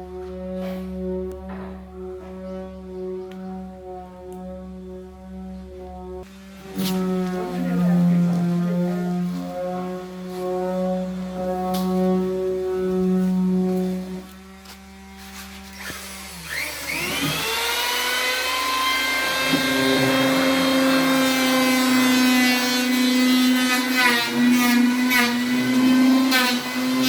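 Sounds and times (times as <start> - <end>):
motor whining: 5.3 - 27.0.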